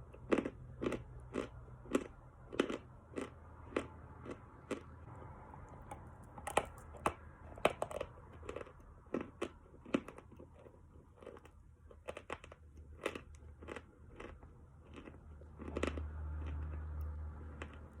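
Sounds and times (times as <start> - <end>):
chewing chalk crunches: 0.0 - 5.1, 5.7 - 18.0.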